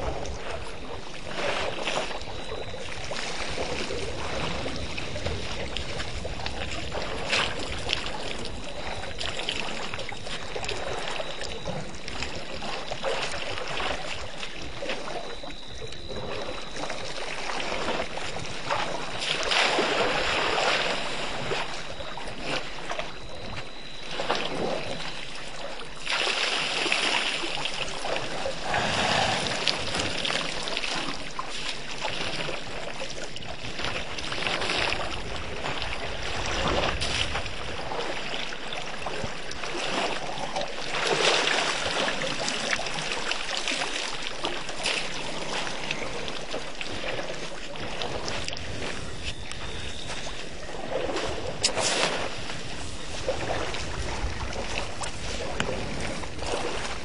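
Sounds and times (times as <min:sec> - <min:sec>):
wind on microphone: 0:00.0 - 0:25.4, 0:27.9 - 0:43.2, 0:44.8 - 0:57.0
elephants splashing water: 0:00.0 - 0:57.0.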